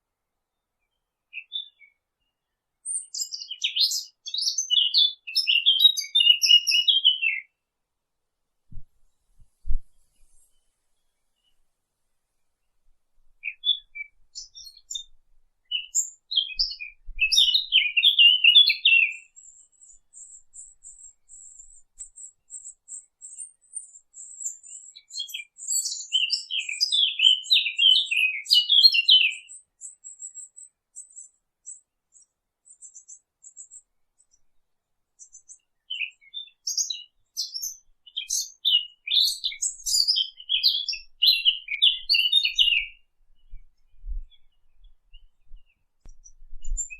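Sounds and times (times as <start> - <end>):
songbirds chirping: 0.0 - 8.0, 8.8 - 46.9.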